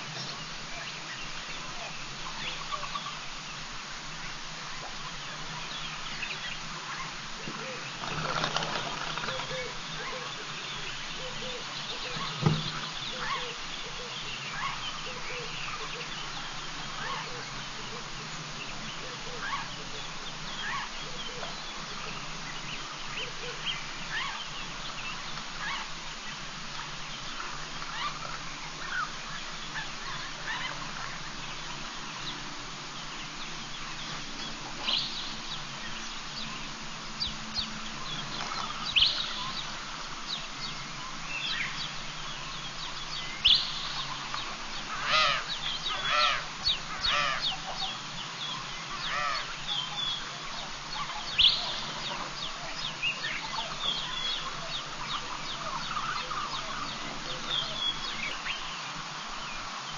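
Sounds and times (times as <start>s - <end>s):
background hiss: 0.0s - 59.9s
birds calling sharply: 5.4s - 26.4s, 27.1s - 59.9s.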